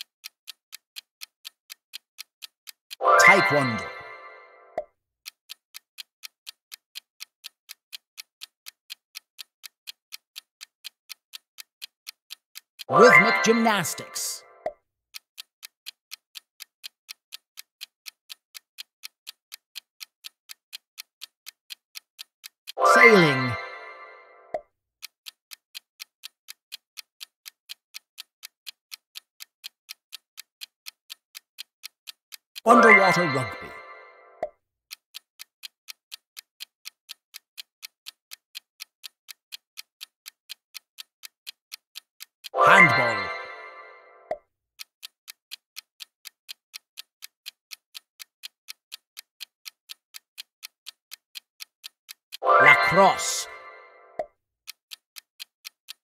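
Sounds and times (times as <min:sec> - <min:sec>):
clock ticking: 0:00.0 - 0:56.0.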